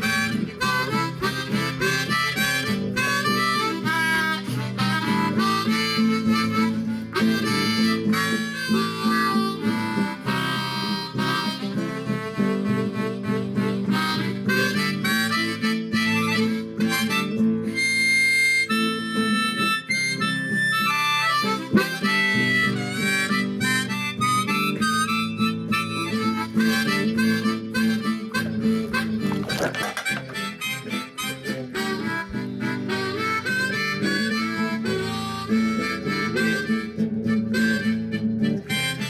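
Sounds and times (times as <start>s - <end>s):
harmonica melody: 0.0s - 39.0s
strummed acoustic guitar chords: 0.0s - 39.0s.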